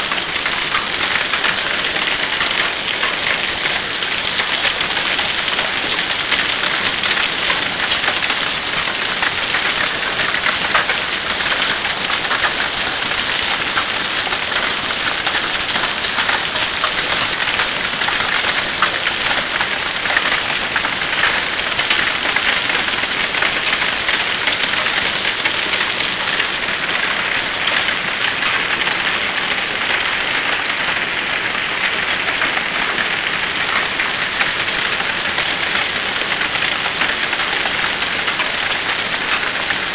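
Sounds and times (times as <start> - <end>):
hailstones pelting down: 0.0 - 39.9.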